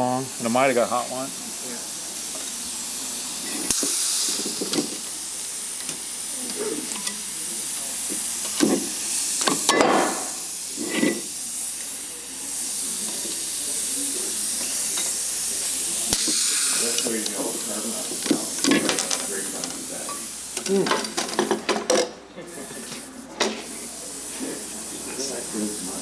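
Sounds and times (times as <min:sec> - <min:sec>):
compressed air hissing: 0:00.0 - 0:21.6, 0:22.5 - 0:26.0.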